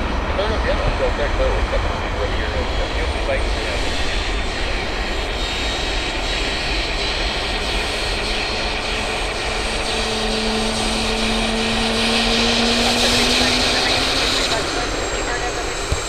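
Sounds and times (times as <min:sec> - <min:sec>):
jet engines running: 0:00.0 - 0:16.0
rising humming tone: 0:00.0 - 0:16.0.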